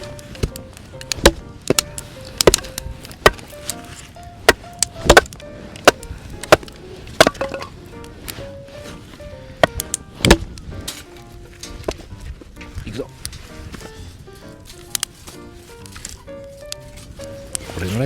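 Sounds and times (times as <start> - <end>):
axe striking firewood: 0.0 - 12.8, 14.6 - 17.9
soft background music: 0.0 - 18.0.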